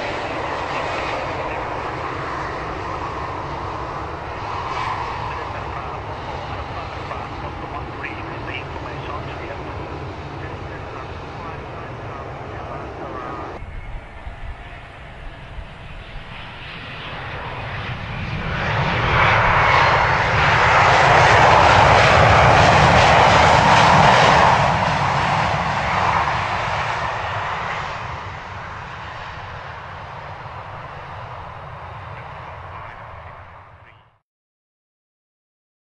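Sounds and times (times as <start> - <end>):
jet engines in reverse thrust: 0.0 - 34.0.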